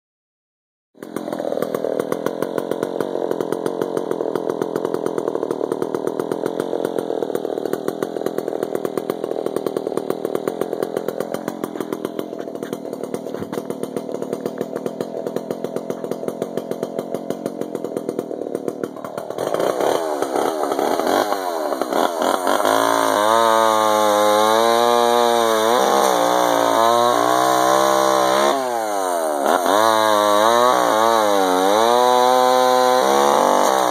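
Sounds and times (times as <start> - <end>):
chainsaw idling and revving: 1.0 - 33.9.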